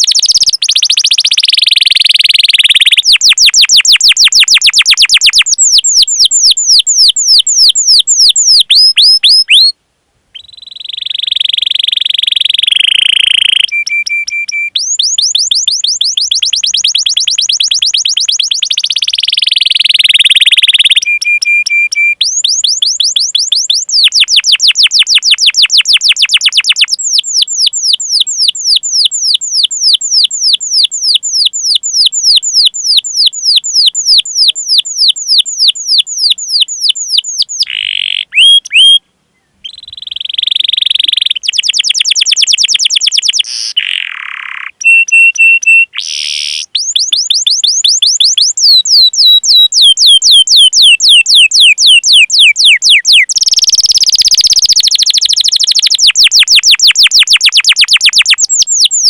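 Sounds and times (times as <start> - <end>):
canary singing: 0.0 - 9.8, 10.4 - 39.0, 39.6 - 59.0.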